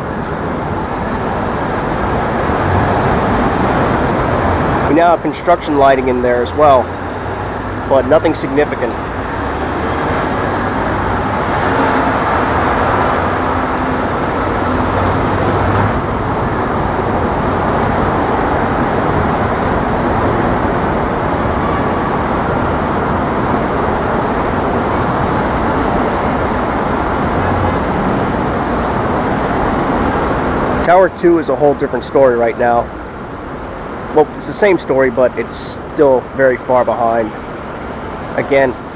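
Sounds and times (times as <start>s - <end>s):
city road traffic: 0.0s - 38.9s
vehicle engine humming: 0.0s - 38.9s.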